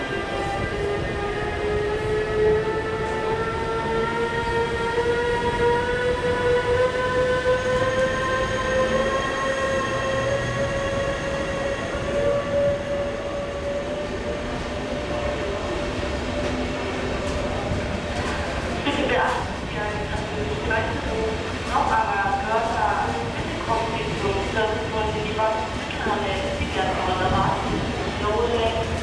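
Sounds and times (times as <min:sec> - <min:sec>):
low rumble of rolling train: 0:00.0 - 0:29.0.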